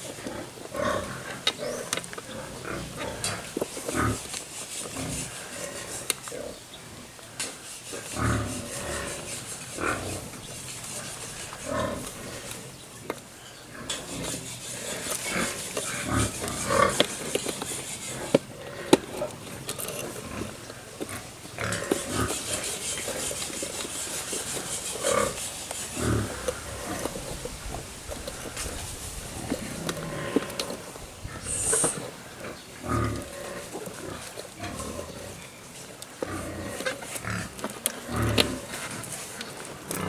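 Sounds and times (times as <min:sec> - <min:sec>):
pigs grunting: 0:00.0 - 0:40.0.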